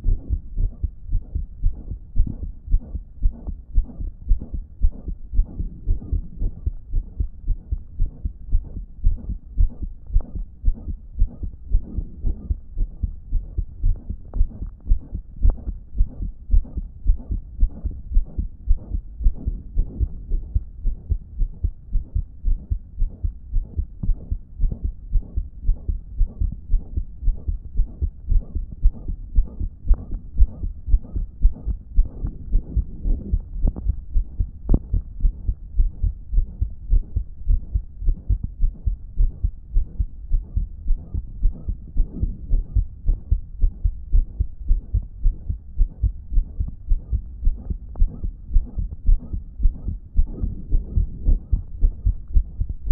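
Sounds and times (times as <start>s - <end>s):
blowing heart murmur: 0.0s - 52.9s
heart beating thump: 0.0s - 52.9s.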